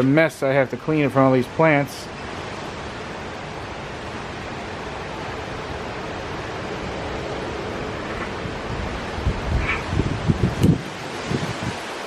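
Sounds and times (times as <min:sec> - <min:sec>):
wind and rain rushing: 0:00.0 - 0:12.0.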